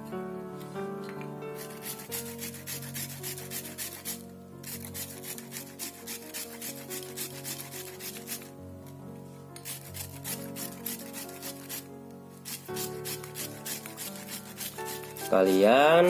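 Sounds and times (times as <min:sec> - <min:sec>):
background music: 0:00.0 - 0:16.0
fruit rasping on hand grater: 0:01.5 - 0:08.5, 0:09.6 - 0:15.8.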